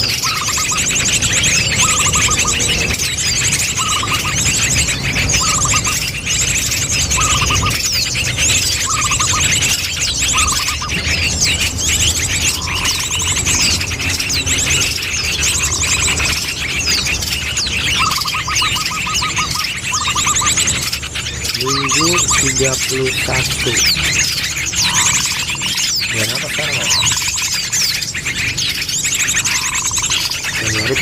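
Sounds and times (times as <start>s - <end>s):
high rapid bird trill: 0.0s - 31.0s
lower bird trill: 0.0s - 31.0s
small birds chirping and trilling: 0.0s - 31.0s
steady low hum: 0.0s - 31.0s.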